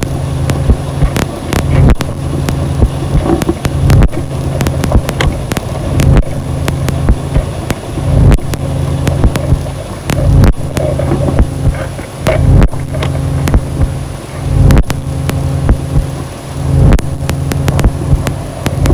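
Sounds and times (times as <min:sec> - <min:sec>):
dense low drone: 0:00.0 - 0:18.9
sharp crackles and clicks: 0:00.0 - 0:18.9.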